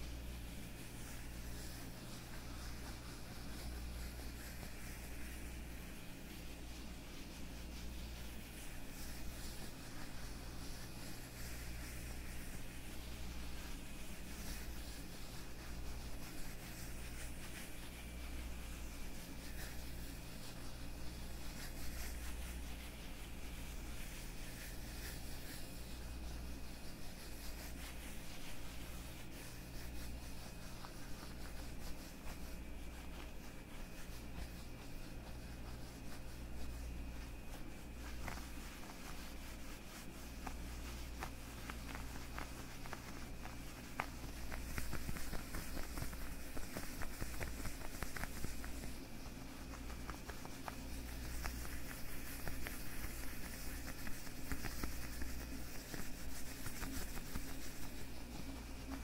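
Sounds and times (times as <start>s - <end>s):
leather gloves rubbing and crackling: 0.0s - 59.0s.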